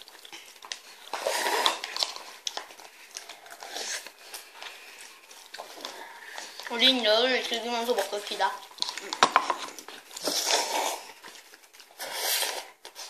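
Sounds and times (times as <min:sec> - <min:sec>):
children chewing: 0:00.0 - 0:13.0.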